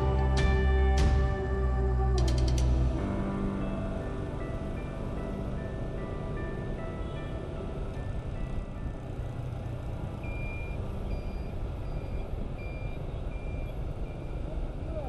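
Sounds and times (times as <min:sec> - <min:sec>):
motorbike engine and traffic rumble: 0:00.0 - 0:15.0.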